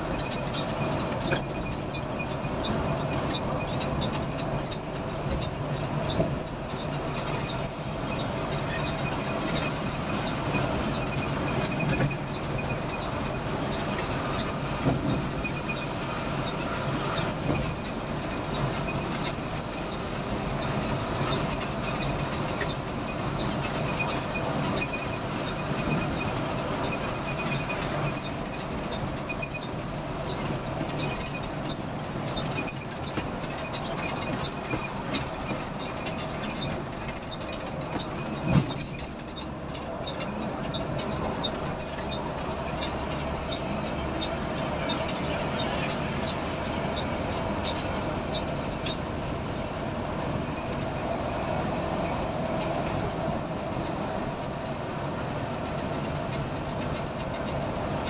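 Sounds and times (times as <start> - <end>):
body rattles and clicks: 0.0 - 58.0
coach engine and road rumble: 0.0 - 58.0.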